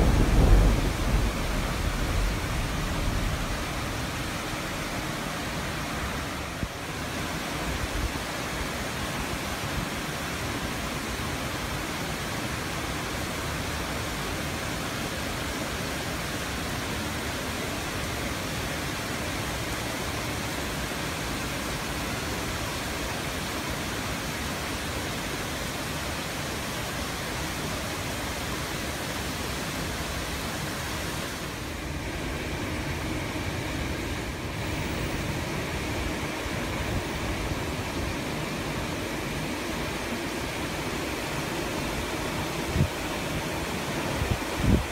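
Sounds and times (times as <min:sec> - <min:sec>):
rain falling on leaves: 0:00.0 - 0:44.9.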